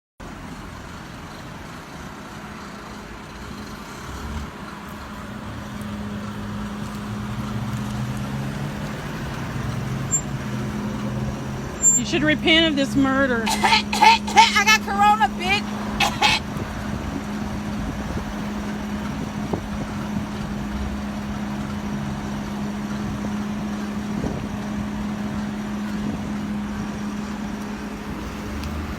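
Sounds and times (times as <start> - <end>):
low engine hum: 0.2 - 28.9
road traffic noise: 0.2 - 28.9.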